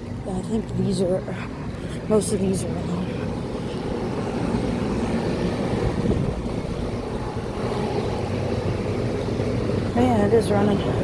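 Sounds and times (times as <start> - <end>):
air conditioner units humming: 0.0 - 11.0.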